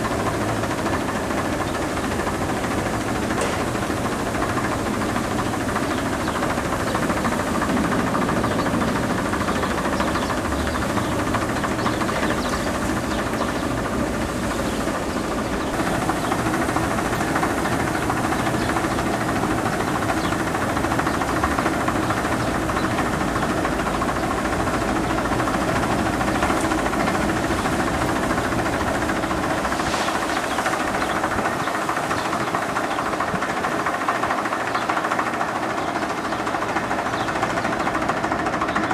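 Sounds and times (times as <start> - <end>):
mechanical hum with hiss: 0.0 - 38.9.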